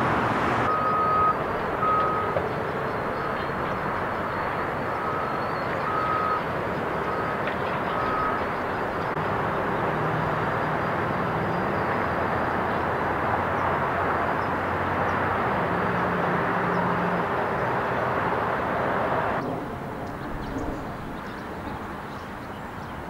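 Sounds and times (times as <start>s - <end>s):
loader diesel engine: 0.0s - 23.0s
steady rushing plant noise: 0.0s - 23.0s.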